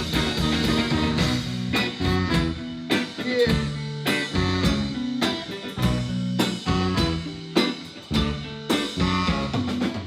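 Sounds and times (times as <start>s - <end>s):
band playing sustained chords: 0.0s - 10.0s.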